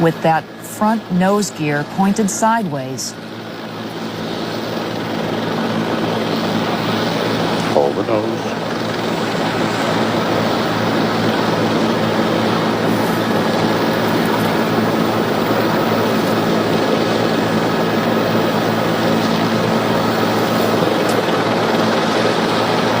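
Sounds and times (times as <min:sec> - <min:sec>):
aircraft droning hum: 0:00.0 - 0:23.0.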